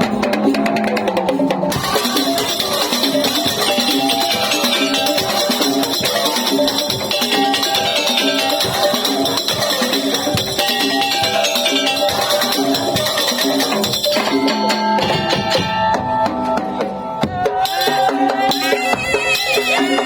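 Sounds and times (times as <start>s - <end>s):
percussion ensemble playing: 0.0s - 20.0s.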